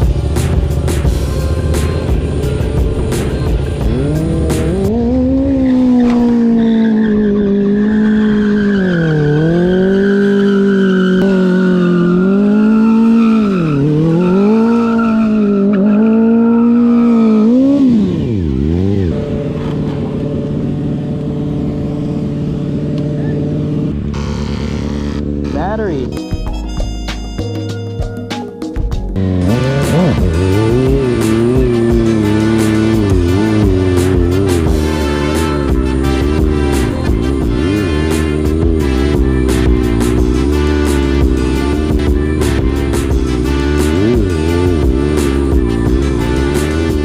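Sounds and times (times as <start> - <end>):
motorcycle engine revving: 0.0 - 26.4, 29.1 - 47.0.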